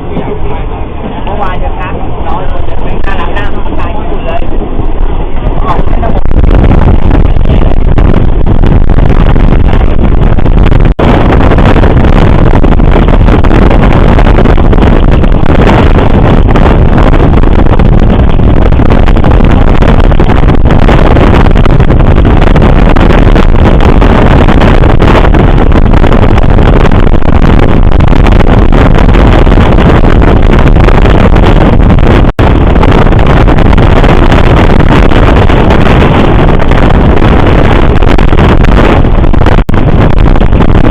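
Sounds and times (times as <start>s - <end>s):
moving train rumble: 0.0s - 40.9s
wind buffeting microphone: 0.0s - 40.9s.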